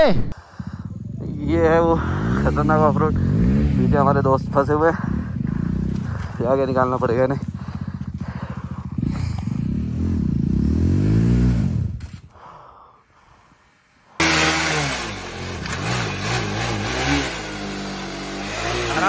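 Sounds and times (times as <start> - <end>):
motorcycle engine idling and revving: 0.1 - 12.4, 13.7 - 19.0.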